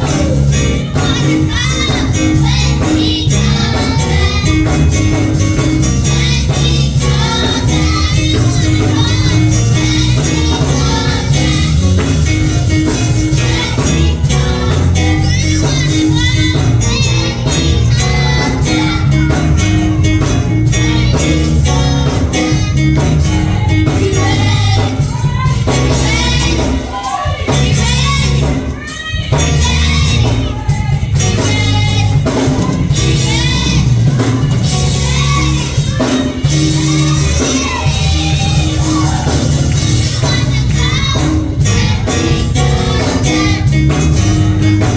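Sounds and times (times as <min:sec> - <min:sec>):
band with steady bass line: 0:00.0 - 0:44.9
voices singing gospel: 0:00.0 - 0:44.9.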